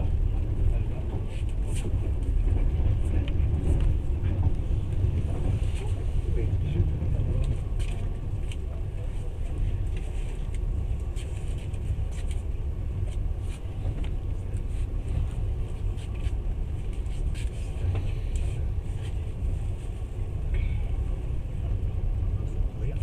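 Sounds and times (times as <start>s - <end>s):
low rumble of wheels on rails: 0.0s - 23.0s.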